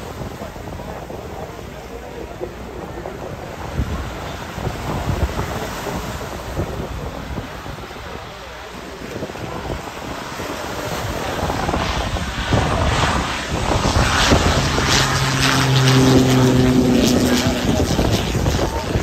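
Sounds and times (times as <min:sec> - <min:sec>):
propeller plane engine: 0:00.0 - 0:19.0
wind buffeting microphone: 0:00.0 - 0:19.0.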